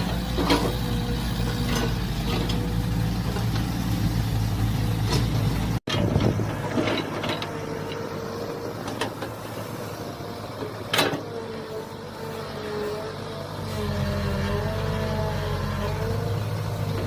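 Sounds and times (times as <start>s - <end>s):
mini excavator engine running: 0.0s - 17.0s.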